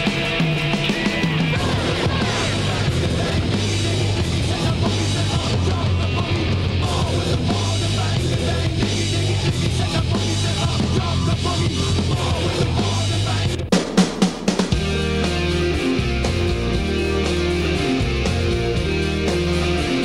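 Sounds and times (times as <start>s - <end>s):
guitar: 0.0s - 13.7s, 14.4s - 20.0s
driving bass line: 0.0s - 20.0s
drums: 0.0s - 20.0s
loud rock music: 0.0s - 20.0s.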